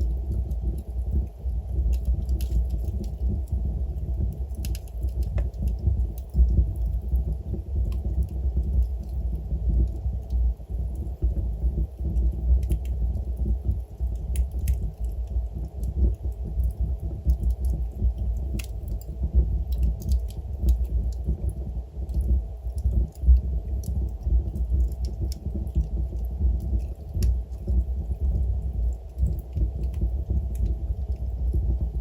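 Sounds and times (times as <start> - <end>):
burning logs crackling and popping: 0.0 - 32.0
wood fire rumbling: 0.0 - 32.0.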